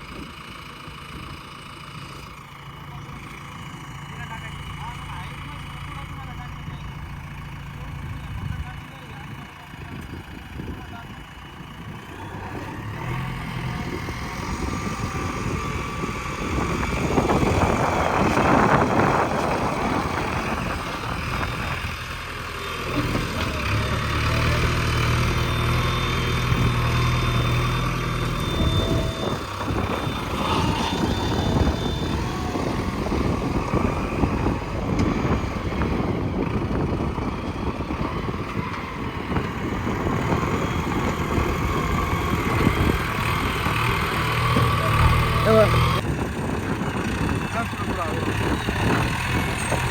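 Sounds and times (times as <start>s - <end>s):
backhoe diesel engine running: 0.0s - 49.9s.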